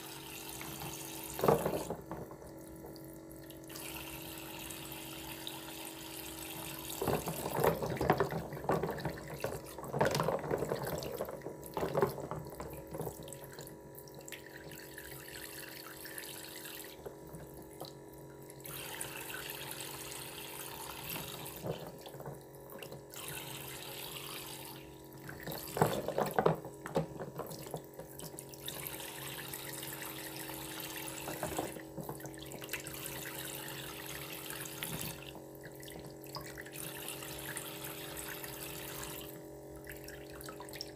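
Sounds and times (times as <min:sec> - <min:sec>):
toy faucet running water: 0:00.0 - 0:40.9
plastic toys splashing in water: 0:00.4 - 0:18.0, 0:18.6 - 0:40.9.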